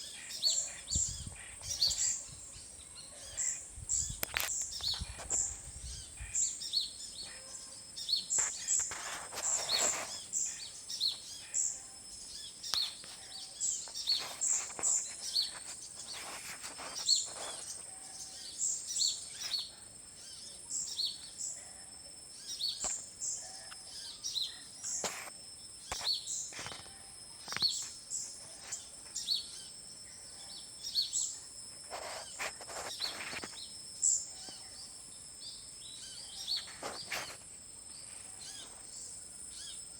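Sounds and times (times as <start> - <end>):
birds chirping: 0.0 - 21.7, 22.3 - 39.9.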